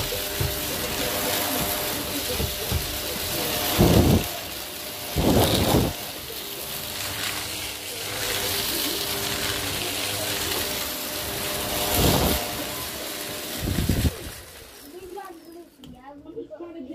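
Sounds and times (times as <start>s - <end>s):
vacuum cleaner on carpet: 0.0s - 15.9s.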